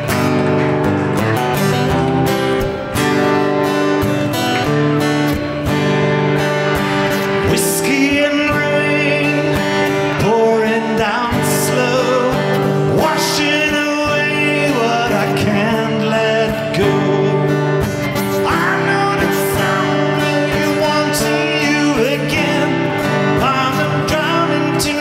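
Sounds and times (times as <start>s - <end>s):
guitar melody line: 0.0s - 25.0s
guitar strummed chords: 0.0s - 25.0s.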